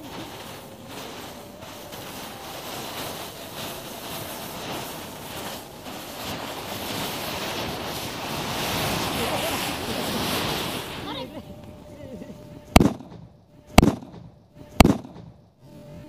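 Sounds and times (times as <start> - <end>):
matchsticks burning with a hiss: 0.0 - 15.4
wind on microphone: 0.0 - 16.0.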